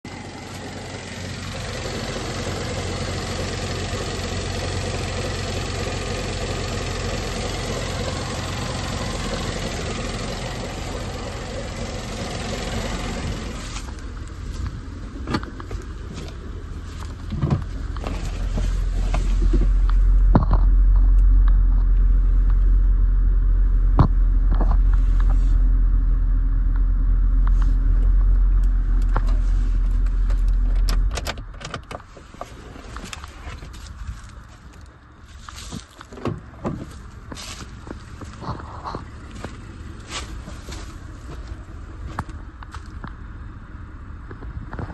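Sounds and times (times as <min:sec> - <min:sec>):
car engine idling: 0:00.0 - 0:44.9
deep engine rumble: 0:00.0 - 0:44.9.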